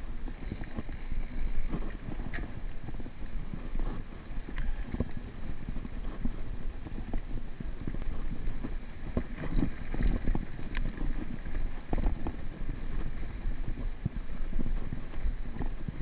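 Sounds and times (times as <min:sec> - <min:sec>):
bike knocking and rattling: 0:00.0 - 0:16.0
bike tyres rumbling on dirt: 0:00.0 - 0:16.0.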